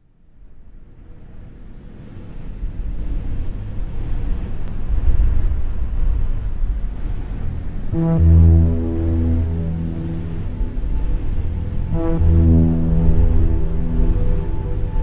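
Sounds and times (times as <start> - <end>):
low rushing wind: 0.5 - 15.0.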